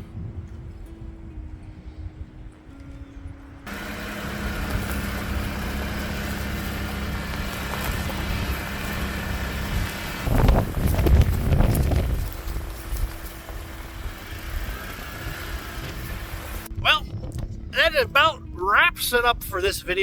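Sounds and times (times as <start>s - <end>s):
low rumbling buffets: 0.0s - 20.0s
vehicle engine hum and road noise: 0.0s - 20.0s.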